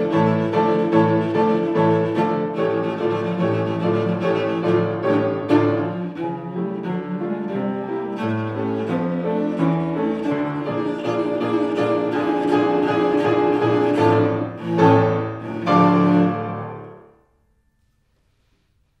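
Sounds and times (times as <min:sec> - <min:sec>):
cello and piano playing: 0:00.0 - 0:17.2.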